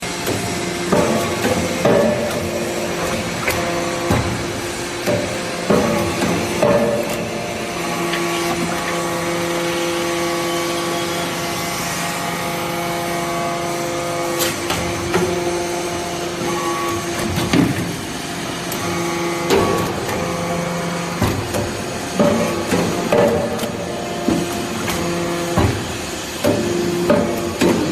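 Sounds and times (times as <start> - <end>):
hydraulic pump hum: 0.0 - 27.9.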